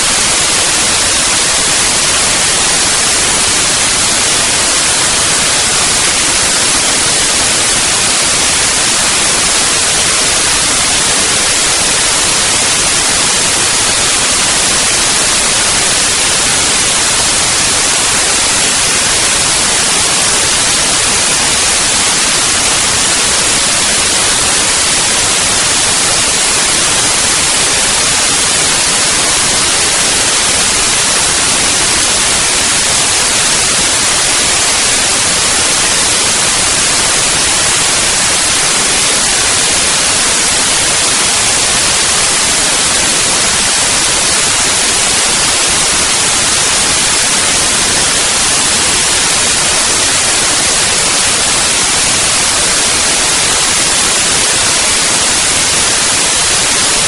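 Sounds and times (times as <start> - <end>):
loud steady hiss: 0.0 - 57.0.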